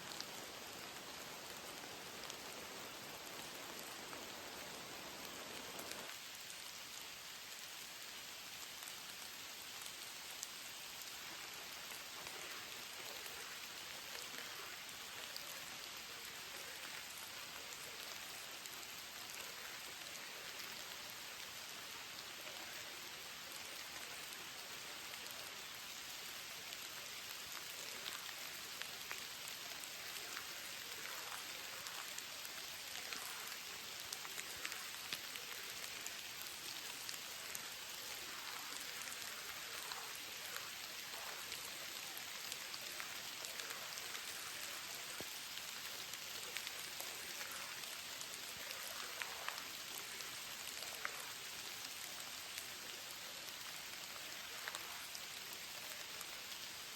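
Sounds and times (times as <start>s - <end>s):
steady rain with drop ticks: 0.0s - 56.9s.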